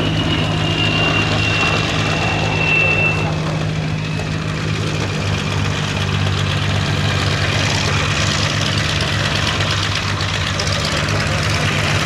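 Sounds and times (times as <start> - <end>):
aircraft engine droning: 0.0 - 12.0.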